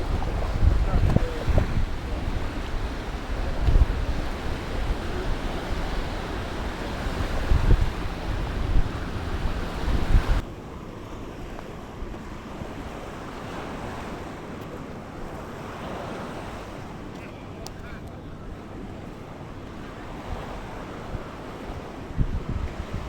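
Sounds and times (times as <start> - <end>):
sea waves washing on shore: 0.0 - 23.0
wind buffeting microphone: 0.0 - 23.0.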